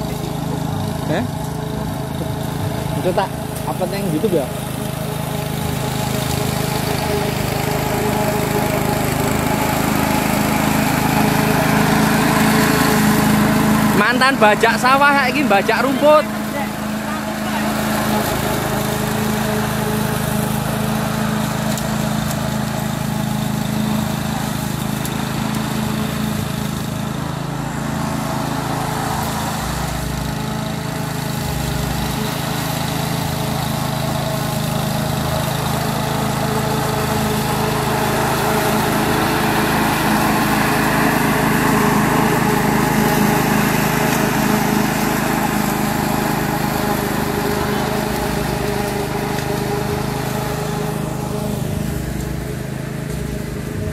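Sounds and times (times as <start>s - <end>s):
lawn mower engine cutting grass: 0.0s - 53.9s.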